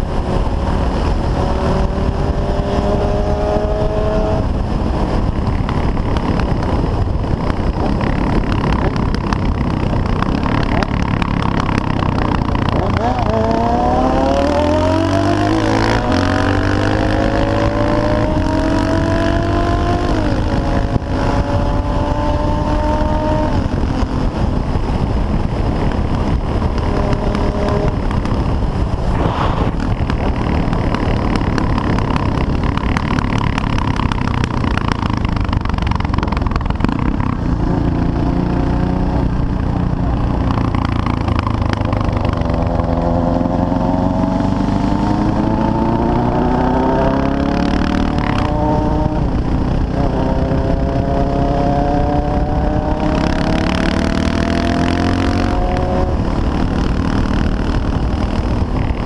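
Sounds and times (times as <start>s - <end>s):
motorcycle engine pulling hard: 0.0s - 59.0s
wind rush over microphone: 0.0s - 59.0s.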